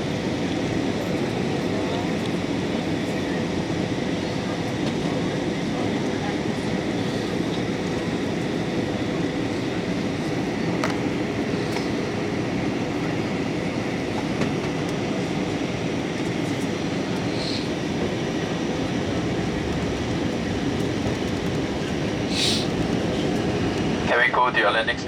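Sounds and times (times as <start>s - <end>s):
jet engines droning: 0.0s - 25.0s
rushing air in cabin: 0.2s - 24.2s.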